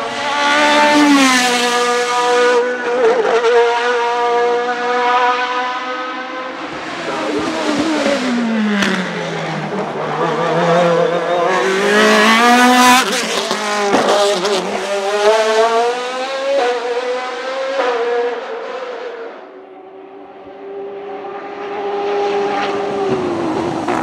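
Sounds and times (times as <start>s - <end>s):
race car engine passing at high revs: 0.0s - 24.0s.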